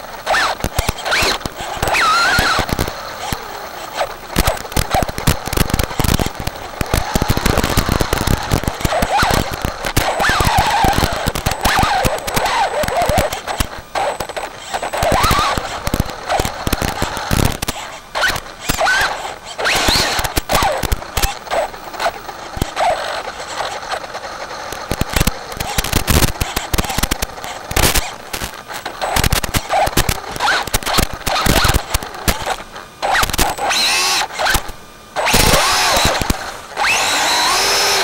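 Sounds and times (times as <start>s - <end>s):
rc truck motor whining: 0.0s - 38.0s.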